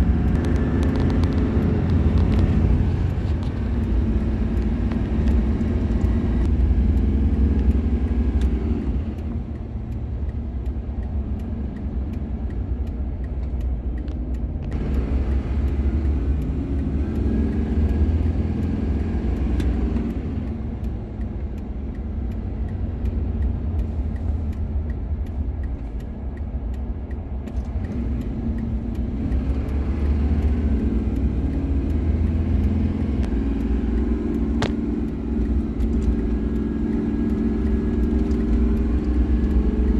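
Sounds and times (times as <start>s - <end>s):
diesel truck engine driving: 0.0s - 39.9s
road rumble: 0.0s - 39.9s.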